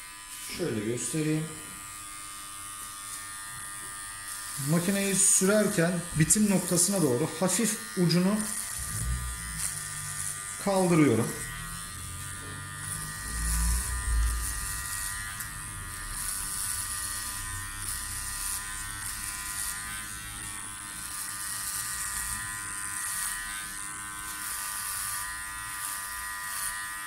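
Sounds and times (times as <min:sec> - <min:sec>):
hair clipper buzzing: 0:00.0 - 0:27.0.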